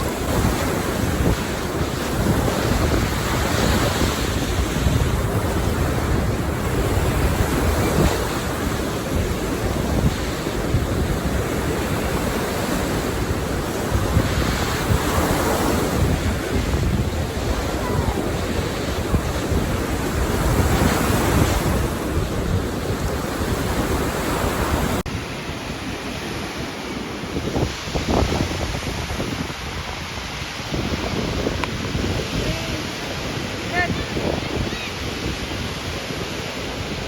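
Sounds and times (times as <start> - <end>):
waves washing onto sand: 0.0 - 37.0
wind buffeting microphone: 0.0 - 37.0.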